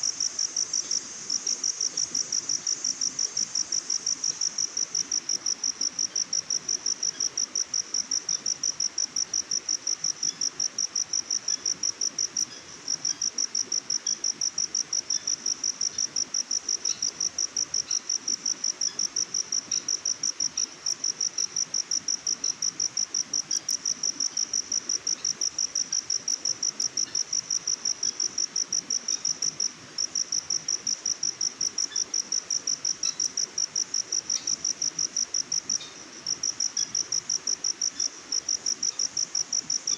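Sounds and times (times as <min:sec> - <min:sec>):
cricket trilling: 0:00.0 - 0:39.9
faint insect chirps: 0:00.0 - 0:39.9.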